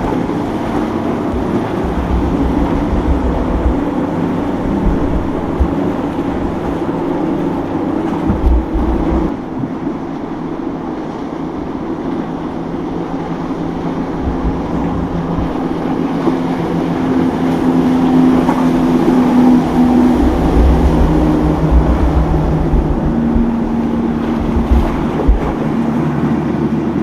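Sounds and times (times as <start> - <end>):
boat engines running: 0.0 - 27.0
wind buffeting microphone: 0.0 - 27.0.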